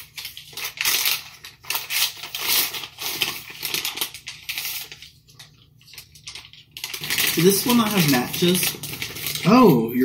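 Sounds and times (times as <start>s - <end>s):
plastic bag rustling and crinkling: 0.0s - 9.8s.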